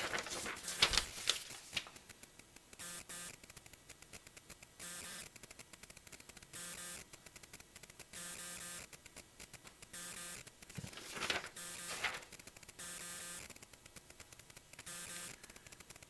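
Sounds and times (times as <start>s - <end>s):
faint electrical buzz: 0.0s - 16.0s.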